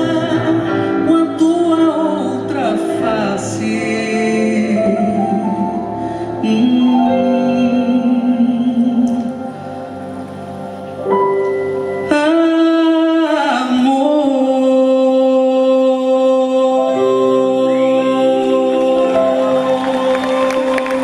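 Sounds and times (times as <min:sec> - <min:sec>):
person singing long note: 0:00.0 - 0:10.8, 0:11.6 - 0:21.0
sustained instrumental chords: 0:00.0 - 0:21.0.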